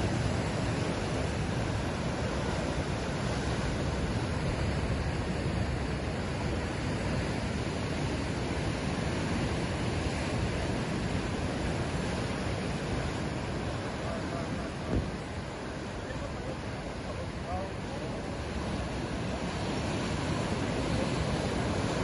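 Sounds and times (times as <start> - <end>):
ocean surf washing: 0.0 - 22.0.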